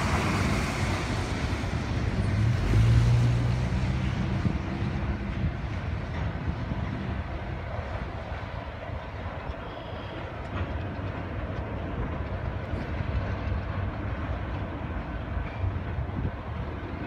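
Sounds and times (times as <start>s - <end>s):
diesel locomotive engine rumble: 0.0s - 17.0s
train wheels rolling: 0.0s - 17.0s.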